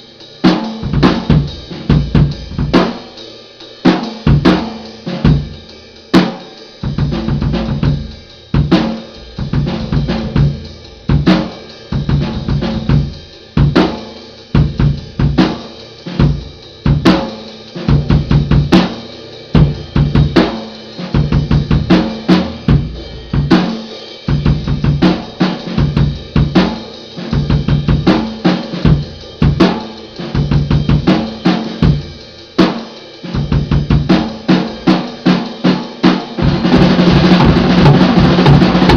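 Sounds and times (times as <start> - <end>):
hi-hat: 0.0 - 36.7
snare and bass drum: 0.0 - 38.9.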